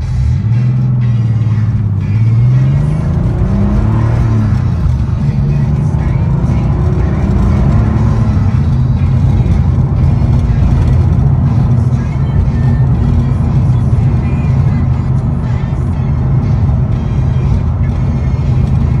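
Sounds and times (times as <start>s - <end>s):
car engine cruising: 0.0s - 19.0s
road noise: 0.0s - 19.0s.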